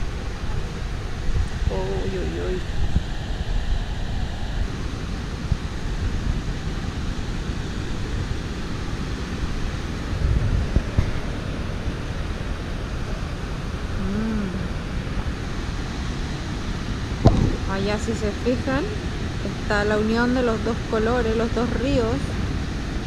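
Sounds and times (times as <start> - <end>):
river rushing: 0.0 - 23.0
wind buffeting microphone: 0.0 - 23.0.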